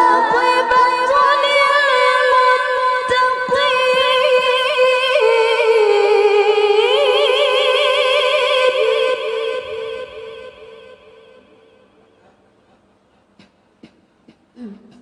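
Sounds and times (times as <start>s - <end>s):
woman reciting melismatically: 0.0s - 12.3s, 14.6s - 15.0s.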